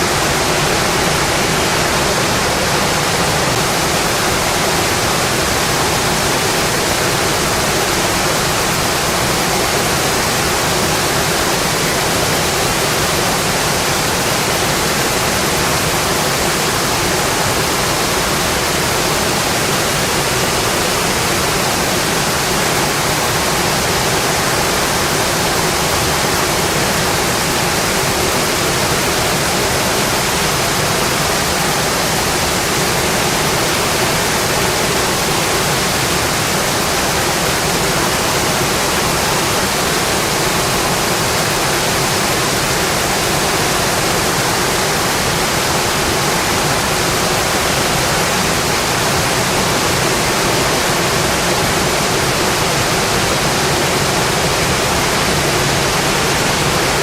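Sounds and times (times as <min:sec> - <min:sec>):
steady dense rain: 0:00.0 - 0:57.0.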